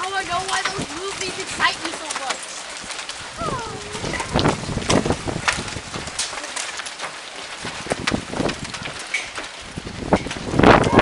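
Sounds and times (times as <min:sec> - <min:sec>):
rain drops hitting a surface: 0:00.0 - 0:11.0
steady rain hiss: 0:00.0 - 0:11.0.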